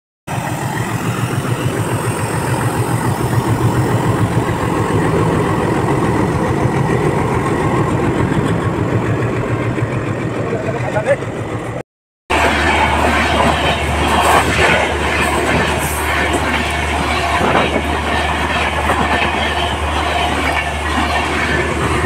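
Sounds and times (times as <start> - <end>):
diesel locomotive engine humming: 0.3 - 22.0.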